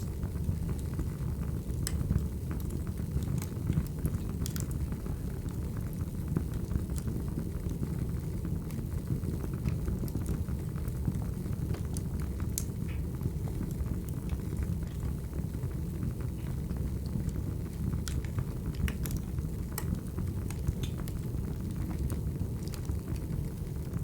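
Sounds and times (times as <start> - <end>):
low rumble of flames: 0.0 - 24.0
wood fire crackles and pops: 0.0 - 24.0.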